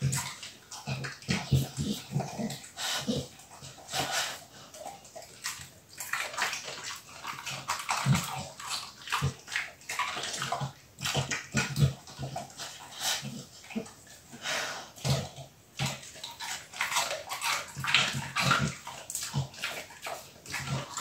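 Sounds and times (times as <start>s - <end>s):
dog licking and chewing: 0.0s - 21.0s.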